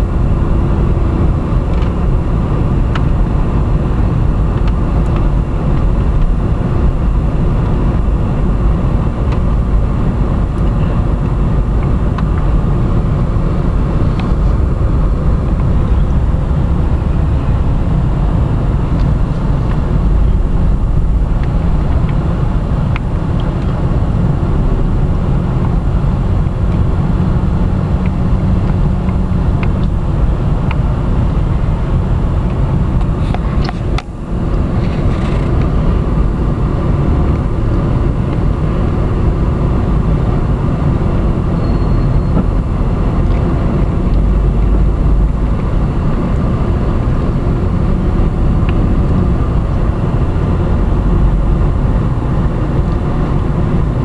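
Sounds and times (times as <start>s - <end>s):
car cabin rumble: 0.0s - 54.0s.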